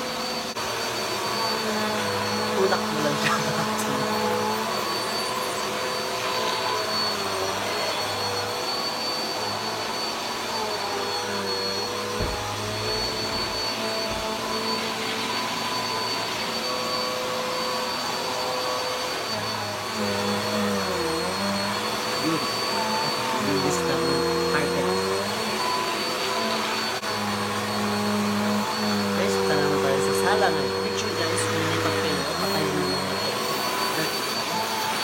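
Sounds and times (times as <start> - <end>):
vacuum cleaner on carpet: 0.0 - 35.0.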